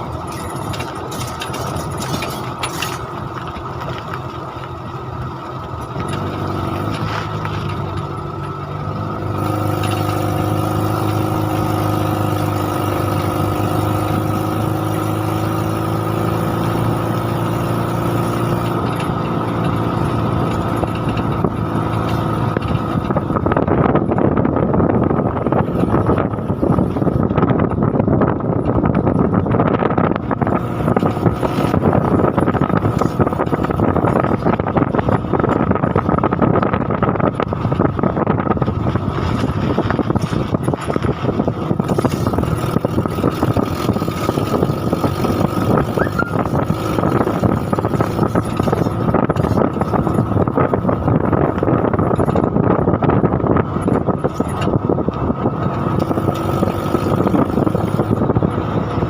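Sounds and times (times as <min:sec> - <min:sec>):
vehicle rumbling: 0:00.0 - 0:59.0.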